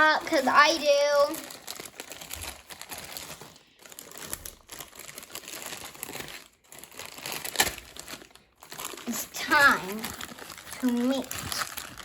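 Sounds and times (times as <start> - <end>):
toy packaging crinkling: 0.0 - 12.0.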